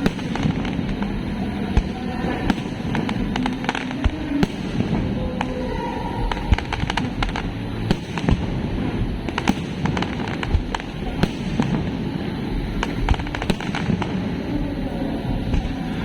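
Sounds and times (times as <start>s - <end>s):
fireworks cracking and popping: 0.0s - 16.0s
low rumble of bursts: 0.0s - 16.0s.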